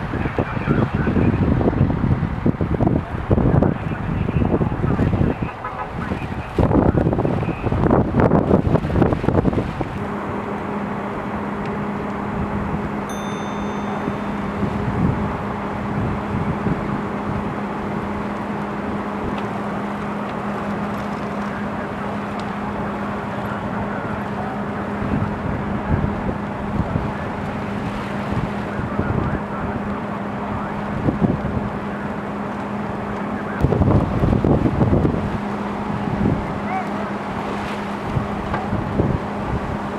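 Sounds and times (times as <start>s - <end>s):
wind buffeting microphone: 0.0s - 13.1s, 14.1s - 39.9s
engine hum: 0.0s - 39.9s.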